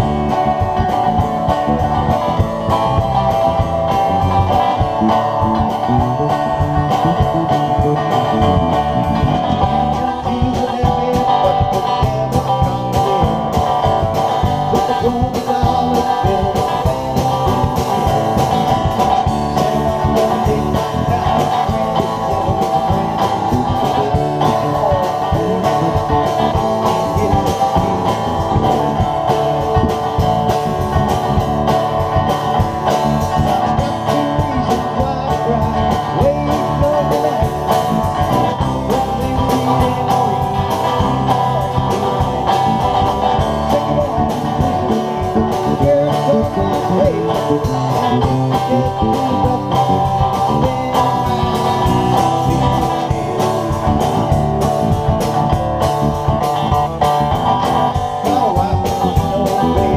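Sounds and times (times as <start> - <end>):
acoustic guitar: 0.0 - 59.9
drum kit: 0.0 - 59.9.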